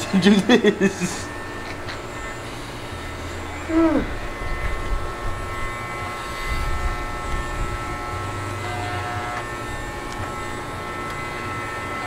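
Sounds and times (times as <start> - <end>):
electric clippers humming: 0.0 - 12.0.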